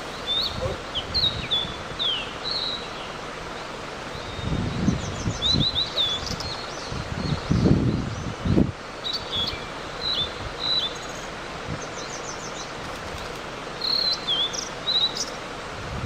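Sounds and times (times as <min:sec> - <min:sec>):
small songbird chirping: 0:00.0 - 0:15.4
steady outdoor hiss: 0:00.0 - 0:16.0.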